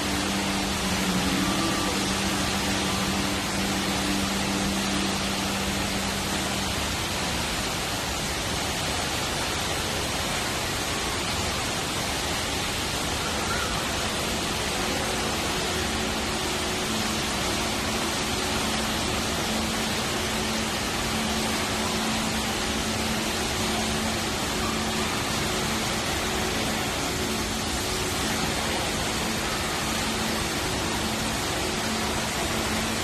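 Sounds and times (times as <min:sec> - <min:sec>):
waterfall pouring into pool: 0:00.0 - 0:33.0.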